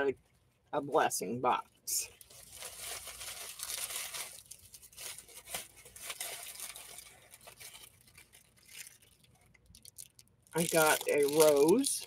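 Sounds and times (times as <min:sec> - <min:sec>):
tissue paper crinkling: 0:02.0 - 0:12.0.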